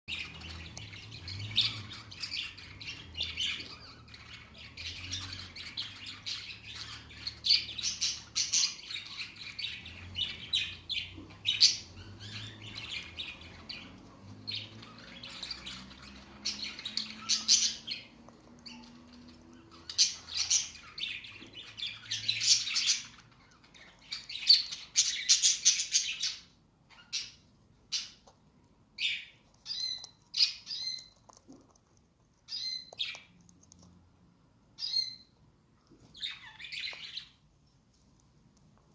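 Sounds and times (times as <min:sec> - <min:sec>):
parrot chirping and squawking: 0:00.1 - 0:31.7, 0:32.4 - 0:33.4, 0:34.7 - 0:35.4, 0:36.0 - 0:37.5.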